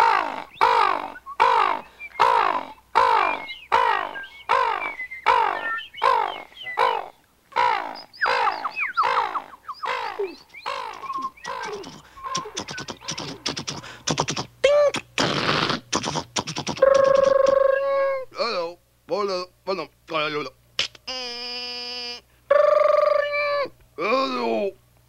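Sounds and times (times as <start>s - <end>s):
man imitating crow calls: 0.0s - 18.3s, 20.8s - 24.8s.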